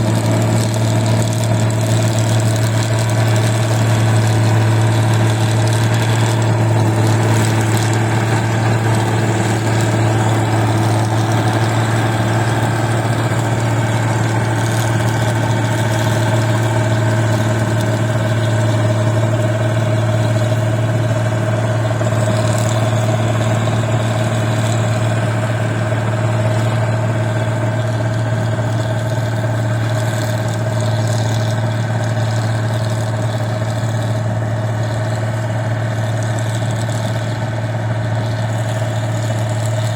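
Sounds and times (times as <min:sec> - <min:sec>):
diesel engine low hum: 0:00.0 - 0:39.9.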